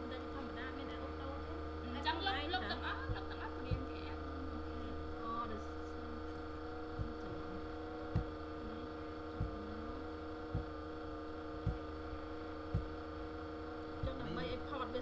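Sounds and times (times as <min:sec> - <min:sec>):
electrical mains hum: 0:00.0 - 0:15.0
soft low thumps: 0:00.0 - 0:15.0.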